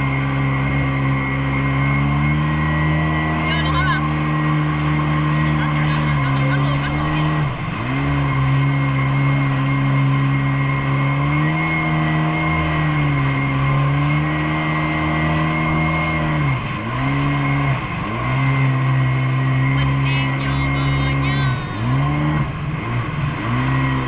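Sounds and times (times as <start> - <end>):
jet ski engine running: 0.0 - 24.0.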